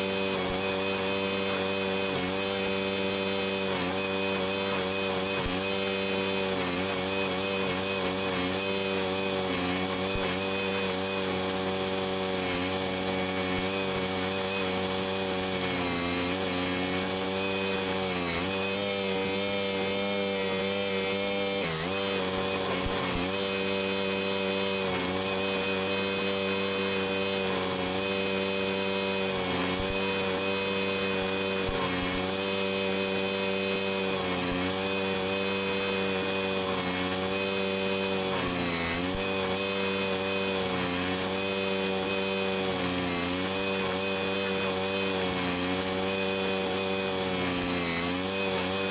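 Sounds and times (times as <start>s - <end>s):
stump grinder engine running: 0.0s - 48.9s.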